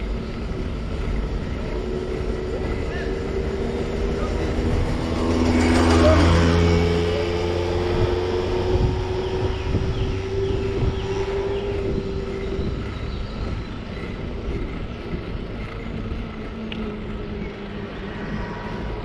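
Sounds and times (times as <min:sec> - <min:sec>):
wind and tyre noise: 0:00.0 - 0:19.0
vehicle passing by: 0:01.3 - 0:13.6, 0:15.1 - 0:19.0.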